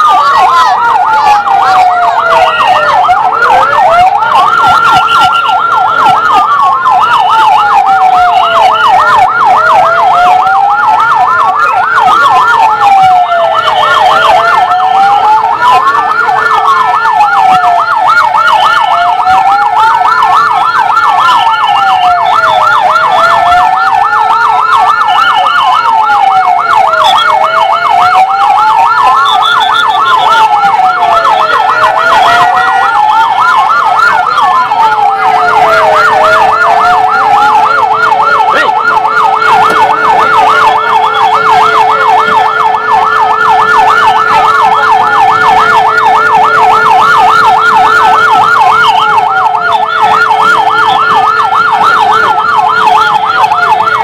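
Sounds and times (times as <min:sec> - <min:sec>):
siren wailing: 0:00.0 - 0:54.0
siren yelping: 0:00.0 - 0:54.0
steady low siren tone: 0:00.0 - 0:54.0.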